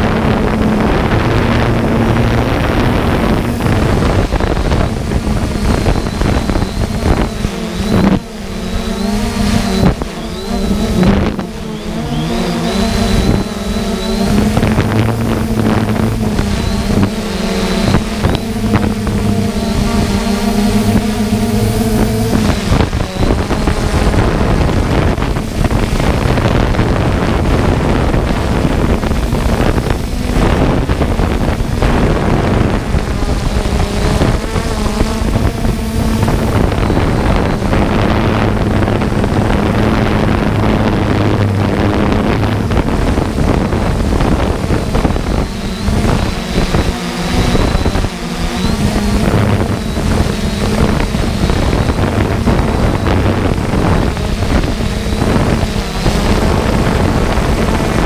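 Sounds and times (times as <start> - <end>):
drone motors and propellers: 0.0 - 58.0
wind buffeting microphone: 0.0 - 58.0.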